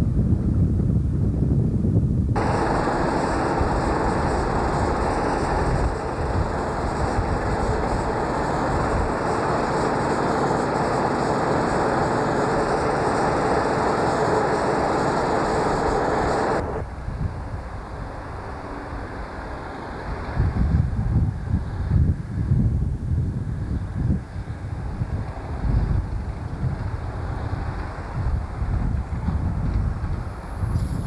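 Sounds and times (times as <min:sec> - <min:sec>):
train wheels rumbling on track: 0:02.3 - 0:22.4, 0:23.5 - 0:31.0.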